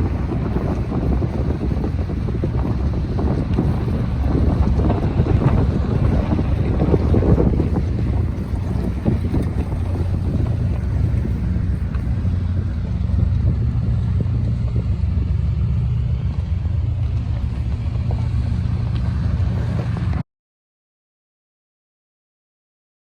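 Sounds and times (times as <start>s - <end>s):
diesel locomotive rumbling: 0.0s - 20.2s.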